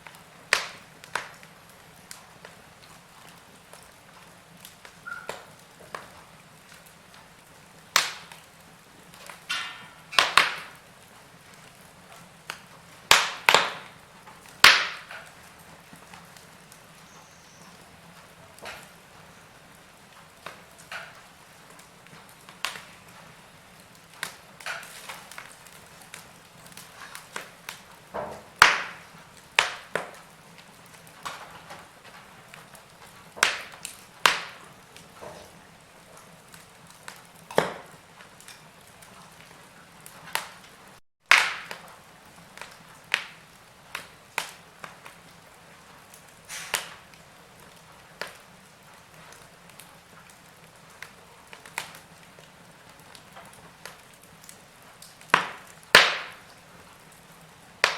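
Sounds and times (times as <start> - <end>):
faint steady hiss: 0.0 - 57.9
wood fire crackling: 0.0 - 57.9.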